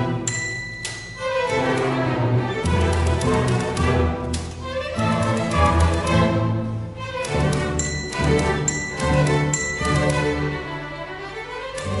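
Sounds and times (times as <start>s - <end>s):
bowed strings holding notes: 0.0s - 12.0s.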